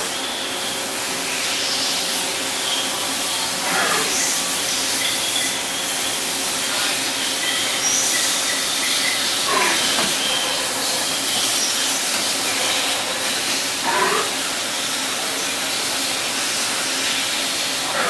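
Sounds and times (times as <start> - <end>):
machinery hissing: 0.0 - 18.0.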